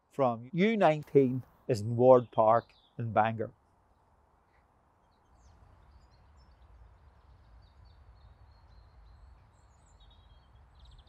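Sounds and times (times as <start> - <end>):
birds chirping and trilling: 0.2 - 4.2, 5.0 - 11.0.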